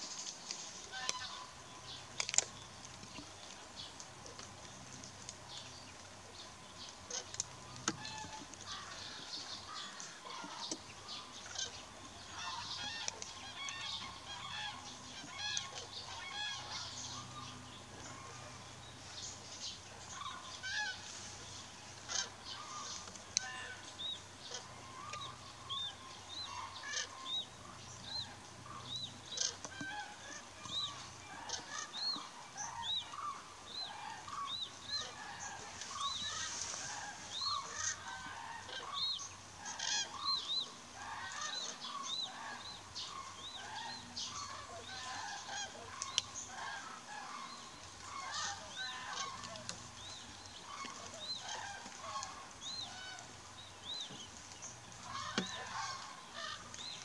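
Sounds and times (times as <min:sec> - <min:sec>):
cranes calling: 0:00.0 - 0:02.5, 0:07.1 - 0:19.0, 0:19.9 - 0:57.0.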